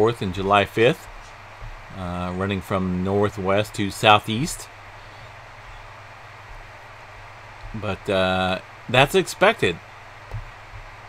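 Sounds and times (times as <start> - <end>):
faint hiss: 0.0 - 11.0
low hum: 0.0 - 11.0.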